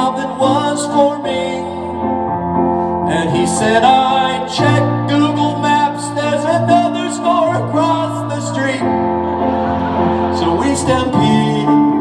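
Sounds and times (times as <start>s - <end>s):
man singing: 0.0s - 2.2s, 3.0s - 12.0s
piano chords: 0.0s - 12.0s.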